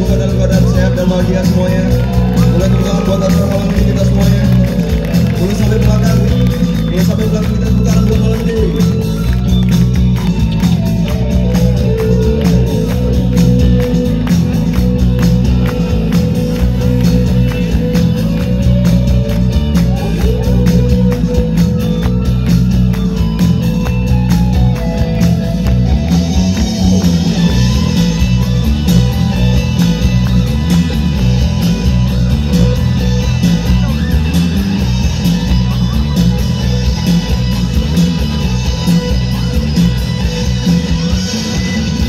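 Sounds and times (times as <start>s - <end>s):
bass and drums: 0.0s - 42.0s
electric guitars: 0.0s - 42.0s.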